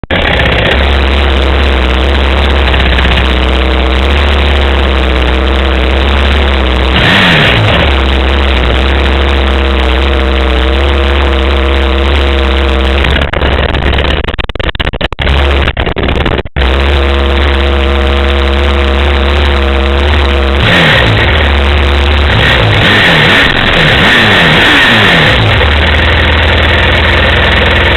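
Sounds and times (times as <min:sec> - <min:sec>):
dirt bike engine revving: 0:00.0 - 0:14.2, 0:16.6 - 0:27.9.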